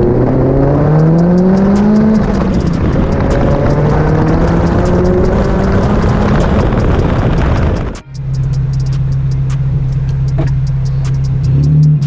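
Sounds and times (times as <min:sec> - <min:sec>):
heavy wind noise: 0:00.0 - 0:11.6
car engine pulling: 0:00.0 - 0:12.0
road noise: 0:00.0 - 0:12.0.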